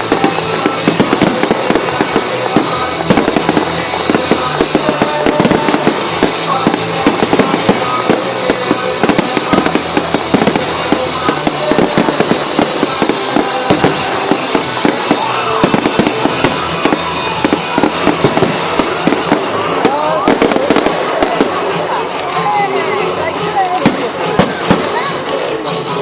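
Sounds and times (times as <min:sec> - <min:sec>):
fireworks crackling and popping: 0:00.0 - 0:26.0
loud music: 0:00.0 - 0:26.0.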